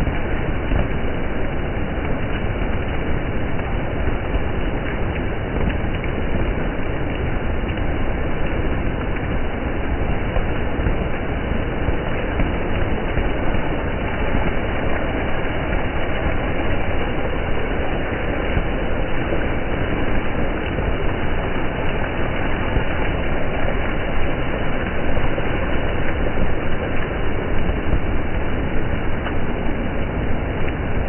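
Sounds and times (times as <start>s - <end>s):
low rumble: 0.0s - 31.0s
water splashing on wet street: 0.0s - 31.0s.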